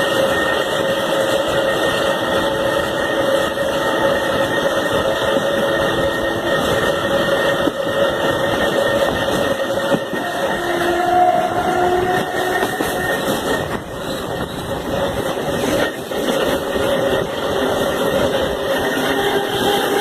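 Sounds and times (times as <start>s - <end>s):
electric train motors whining: 0.0s - 20.0s
wheels rumbling on rails: 0.0s - 20.0s.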